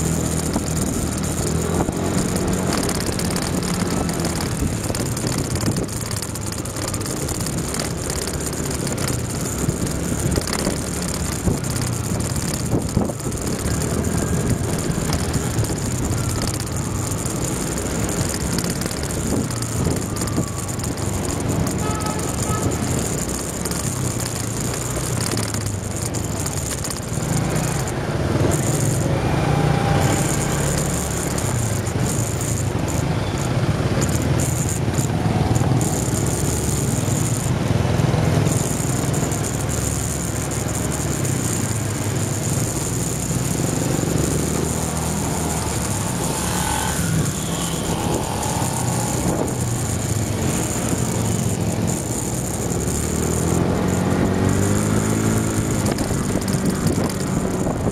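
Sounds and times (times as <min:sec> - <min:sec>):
cars and scooters in traffic: 0:00.0 - 0:57.9
motorbike engine running: 0:00.0 - 0:57.9.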